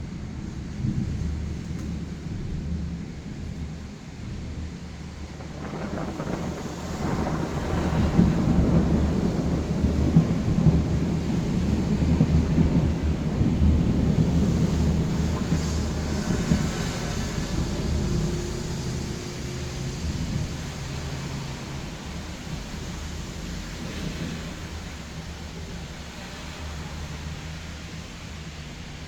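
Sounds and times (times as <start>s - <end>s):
rolling thunder: 0.0s - 28.9s
rain: 0.0s - 29.0s.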